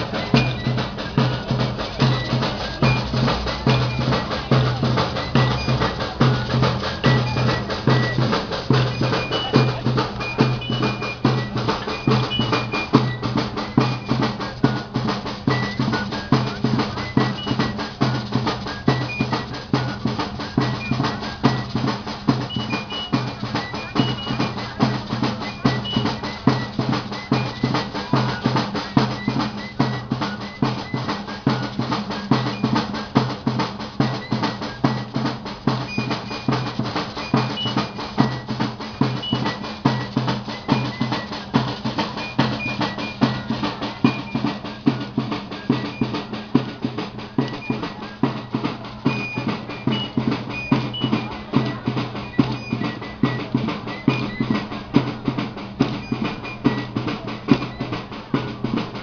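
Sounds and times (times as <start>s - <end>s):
snare and bass drums: 0.0s - 59.0s.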